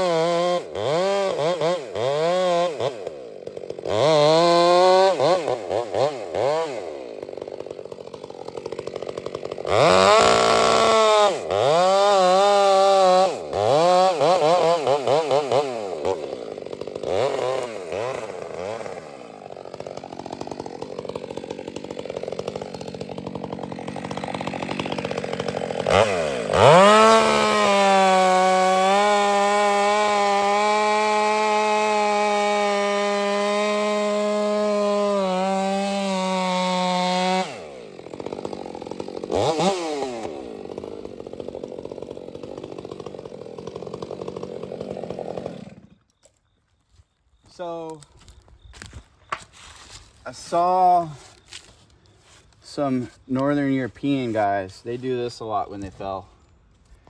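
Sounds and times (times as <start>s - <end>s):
chainsaw revving and cutting: 0.0s - 46.3s, 47.4s - 56.3s.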